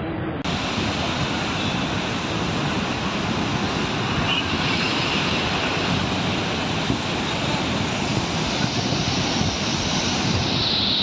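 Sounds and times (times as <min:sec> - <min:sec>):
rushing river water: 0:00.5 - 0:11.0.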